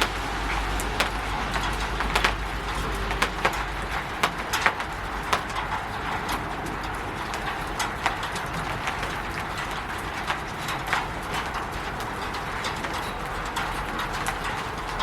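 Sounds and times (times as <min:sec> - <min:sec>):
rain on a roof: 0:00.0 - 0:15.0.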